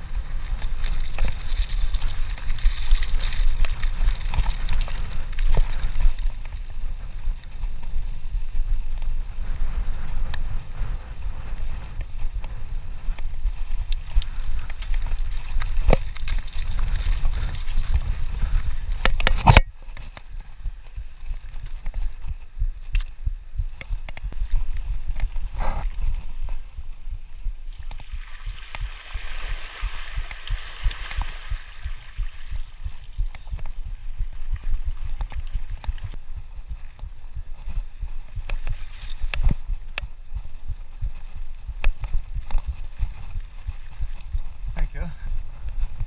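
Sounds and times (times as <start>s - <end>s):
bike knocking on rough trail: 0.0s - 46.0s
wind buffeting microphone: 0.0s - 46.0s.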